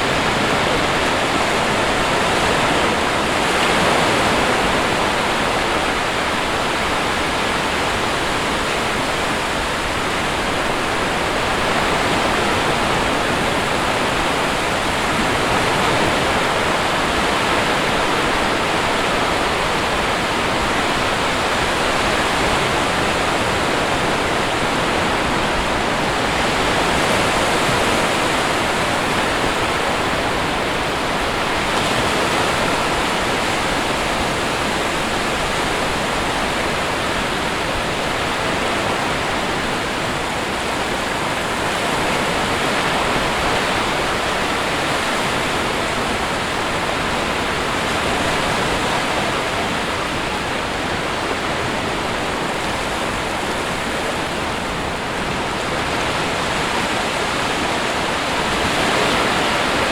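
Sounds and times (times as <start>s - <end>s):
sea waves washing on shore: 0.0s - 59.9s.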